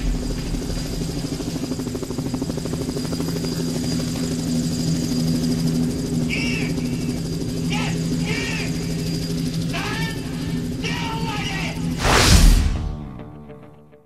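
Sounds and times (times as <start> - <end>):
propeller aircraft engine idling: 0.0 - 11.8.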